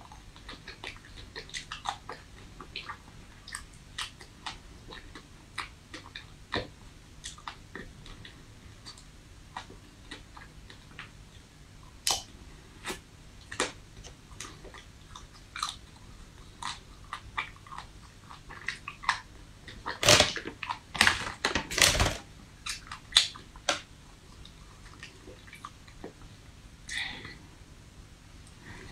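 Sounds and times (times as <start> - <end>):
chewing frozen ice cream bar: 0.0 - 26.3.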